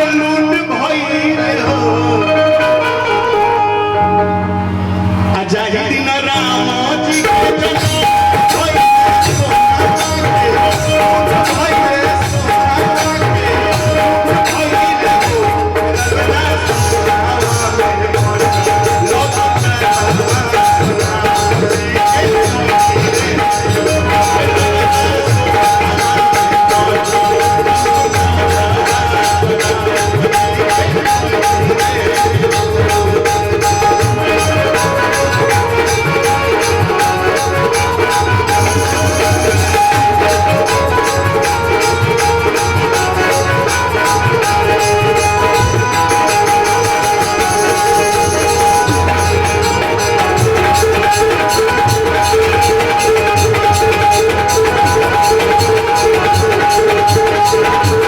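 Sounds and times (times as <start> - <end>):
folk band melody: 1.6 - 58.0
held organ-like notes: 1.6 - 58.0
jingling percussion: 6.4 - 58.0.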